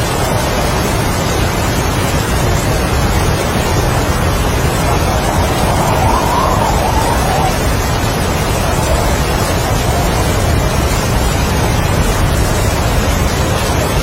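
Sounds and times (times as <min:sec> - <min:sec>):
deep rumble: 0:00.0 - 0:14.0
strong wind and heavy rain: 0:00.0 - 0:14.0
high wind whistle: 0:00.1 - 0:13.4.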